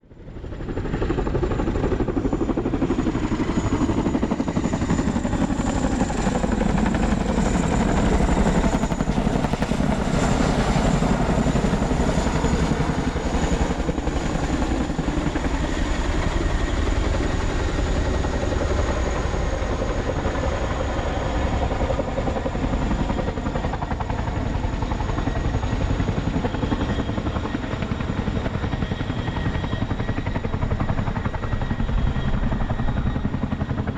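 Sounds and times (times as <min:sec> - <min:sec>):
helicopter rotor rumble: 0:00.0 - 0:33.9.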